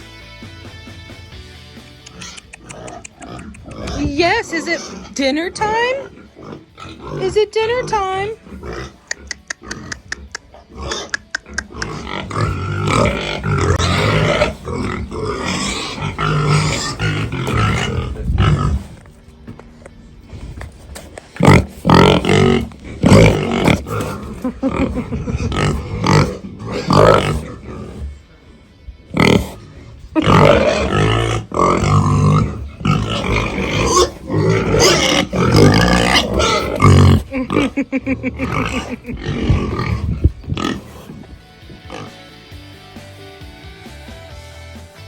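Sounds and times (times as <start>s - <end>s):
pigs grunting: 2.0s - 42.6s.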